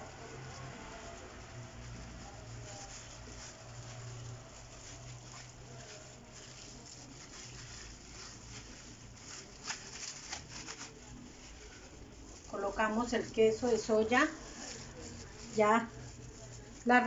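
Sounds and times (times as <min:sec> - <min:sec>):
faint food handling noises: 0:00.0 - 0:17.0.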